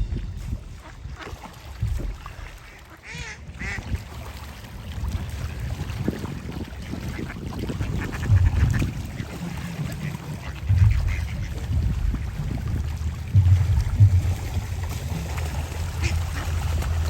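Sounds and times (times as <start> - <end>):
low rumbling bump: 0.0 - 2.8, 5.0 - 17.0
ducks quacking: 0.7 - 4.0, 6.0 - 17.0.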